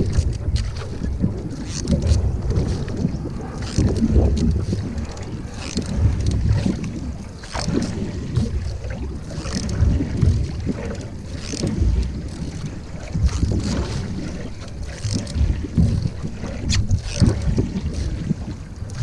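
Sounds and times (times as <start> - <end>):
canoe paddle splashing in water: 0.0 - 19.0
wind buffeting microphone: 0.0 - 19.0.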